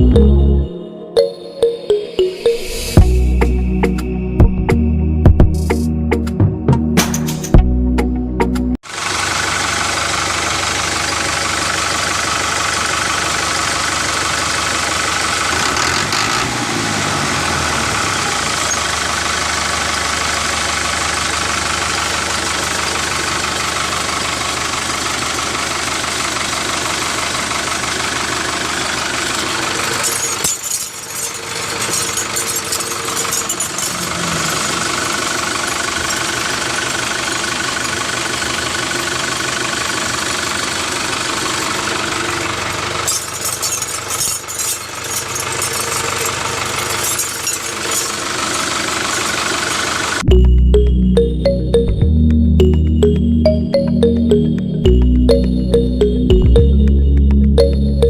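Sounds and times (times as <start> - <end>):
engine running: 2.4 - 58.0.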